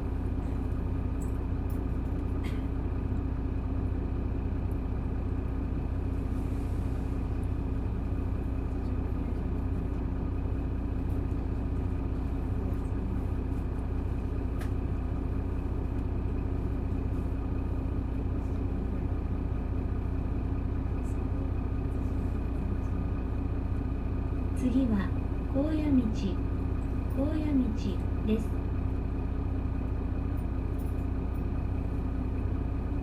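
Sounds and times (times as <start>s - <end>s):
bus diesel engine idling: 0.0s - 33.0s.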